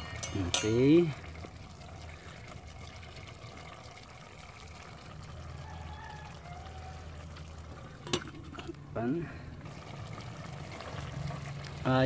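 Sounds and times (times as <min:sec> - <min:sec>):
vegetables bubbling in a pot: 0:00.0 - 0:12.0.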